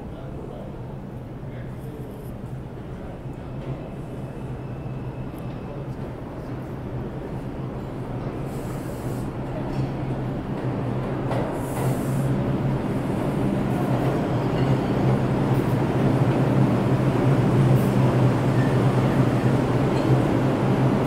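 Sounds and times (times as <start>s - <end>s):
subway train rumbling past: 0.0s - 21.0s.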